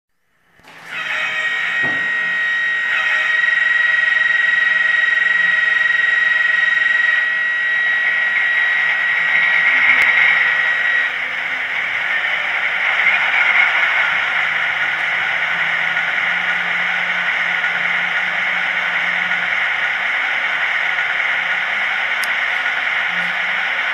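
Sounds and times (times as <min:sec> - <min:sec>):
tinny diesel engine sound: 0:00.3 - 0:23.9
held high tone: 0:00.6 - 0:23.9.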